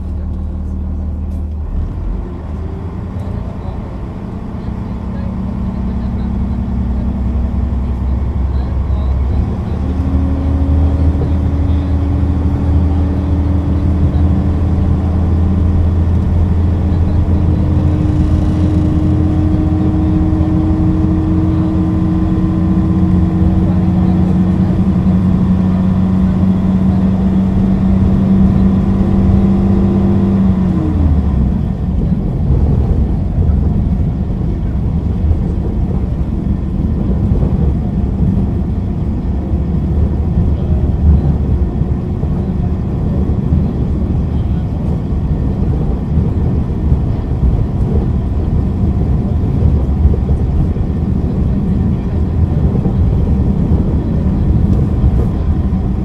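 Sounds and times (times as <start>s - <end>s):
diesel railbus engine running: 0.0s - 56.0s.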